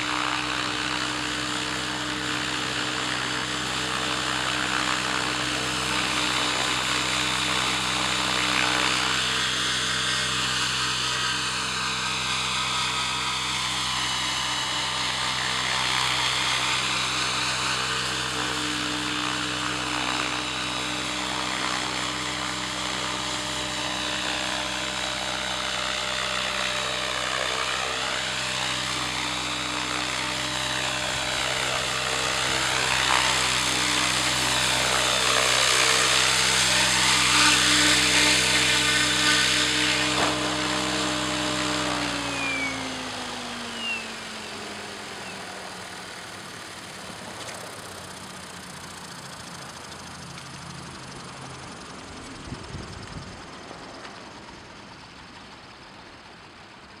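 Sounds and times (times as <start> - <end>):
model helicopter motor and rotor whine: 0.0 - 57.0.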